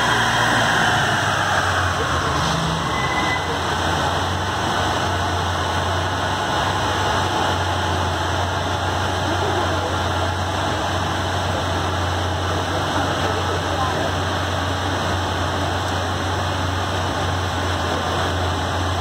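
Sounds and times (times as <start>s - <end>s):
car engine idling: 0.0s - 19.0s
steady rush of noise: 0.0s - 19.0s.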